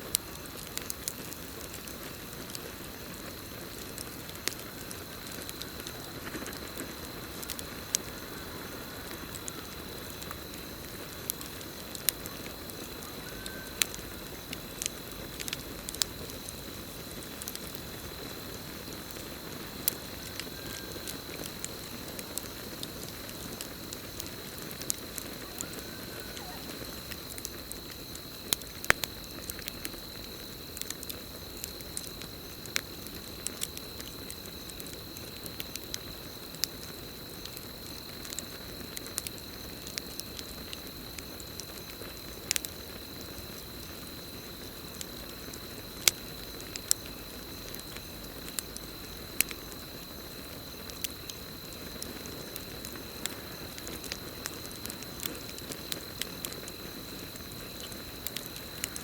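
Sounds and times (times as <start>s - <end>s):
campfire crackling and popping: 0.0s - 59.0s
crickets trilling: 0.0s - 59.0s.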